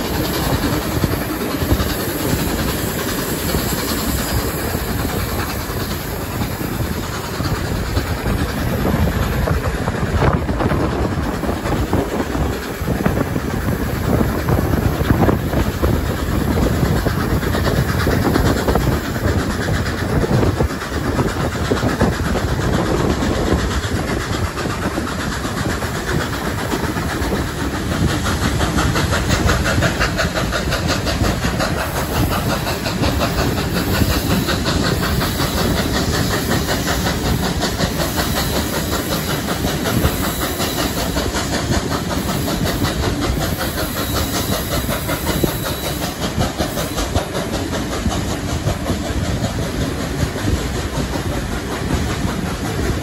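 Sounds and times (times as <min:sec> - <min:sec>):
steam locomotive hissing: 0:00.0 - 0:53.0
train wheels clattering on rails: 0:00.0 - 0:53.0.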